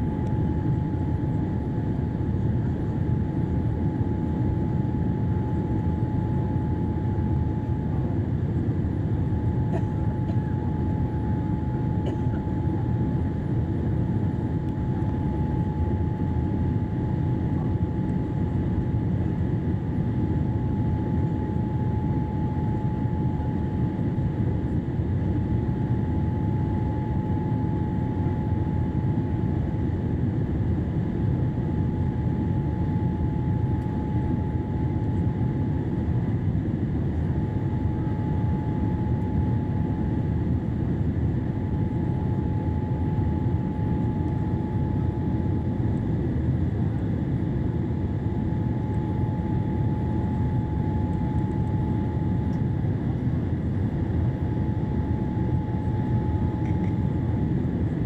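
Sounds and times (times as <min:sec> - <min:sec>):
aircraft engine and airflow rumble: 0:00.0 - 0:58.0
thin steady whine: 0:00.0 - 0:58.0.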